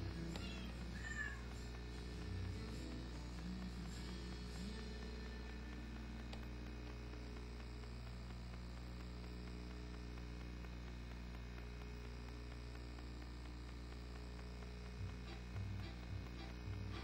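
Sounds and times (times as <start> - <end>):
electrical mains hum: 0.0 - 17.0
faint hiss: 0.0 - 17.0.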